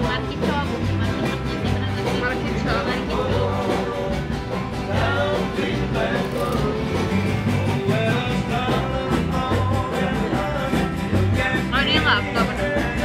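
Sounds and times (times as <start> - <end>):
upbeat music with bass: 0.0 - 13.0.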